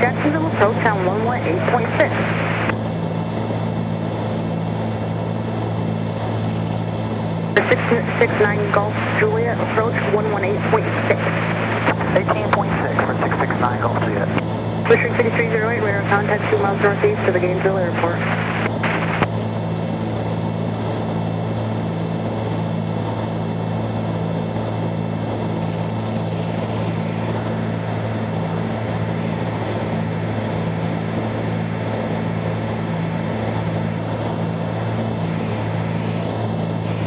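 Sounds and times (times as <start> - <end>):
twin piston engines droning in flight: 0.0 - 37.0.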